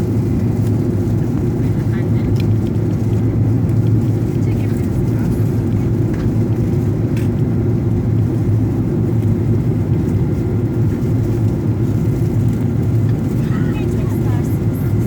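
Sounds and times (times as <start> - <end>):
airplane engines droning: 0.0 - 15.0.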